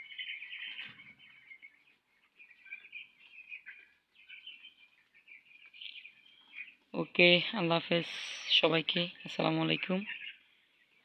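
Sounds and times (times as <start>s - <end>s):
chickens chirping: 0.0s - 11.0s.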